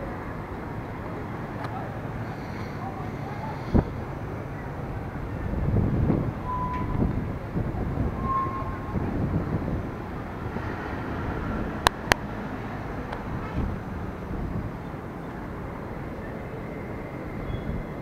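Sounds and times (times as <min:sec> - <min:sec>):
electric train rumbling on track: 0:00.0 - 0:18.0.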